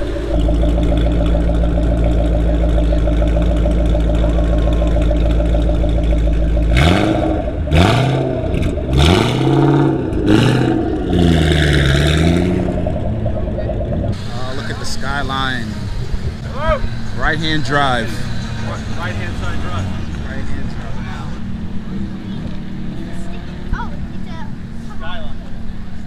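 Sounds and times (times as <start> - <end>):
car engine idling: 0.0 - 26.0
engine revving: 0.0 - 26.0.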